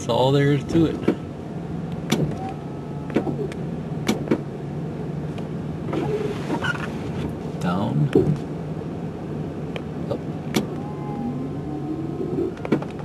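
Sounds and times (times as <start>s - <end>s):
truck idling hum: 0.0s - 13.0s.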